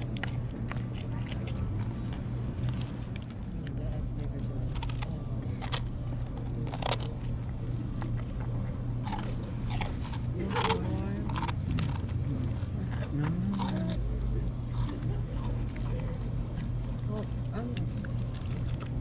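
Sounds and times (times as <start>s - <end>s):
crunchy toast chewing: 0.0s - 17.1s, 17.7s - 19.0s
faint background voices: 0.0s - 19.0s
low hum: 0.0s - 19.0s.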